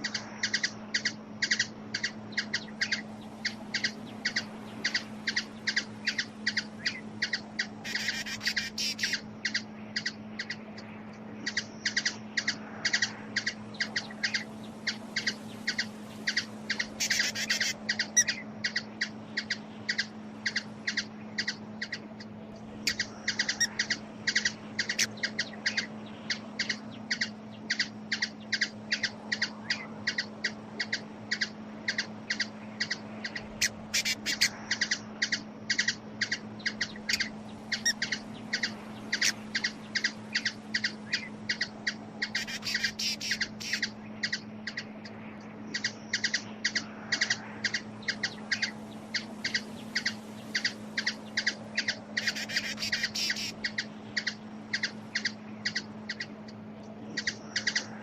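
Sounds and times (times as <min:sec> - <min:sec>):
fast high bird chatter: 0:00.0 - 0:10.8, 0:11.4 - 0:58.0
low hum: 0:00.0 - 0:58.0.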